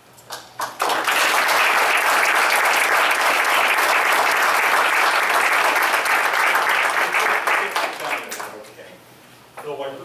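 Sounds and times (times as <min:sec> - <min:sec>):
audience applauding: 0:00.6 - 0:08.6.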